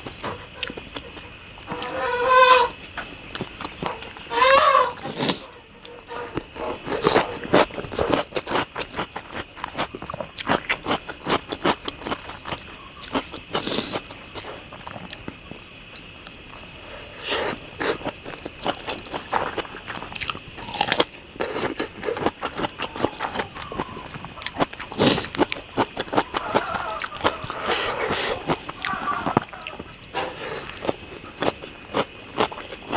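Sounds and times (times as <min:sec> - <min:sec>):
crunching and chewing: 0:00.0 - 0:32.9.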